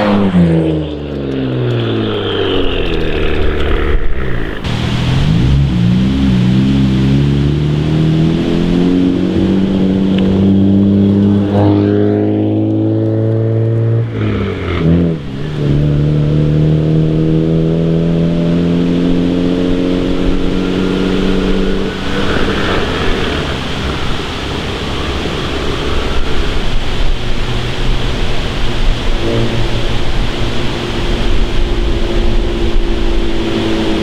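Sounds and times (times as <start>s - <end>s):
car engine accelerating hard: 0.0s - 34.0s
rushing noise: 1.8s - 12.1s, 14.0s - 34.0s.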